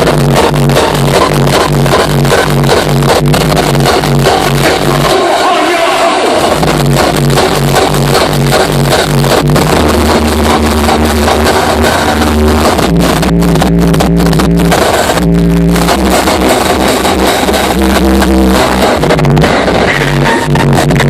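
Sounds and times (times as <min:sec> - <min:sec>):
loud hardstyle dance music: 0:00.0 - 0:21.0.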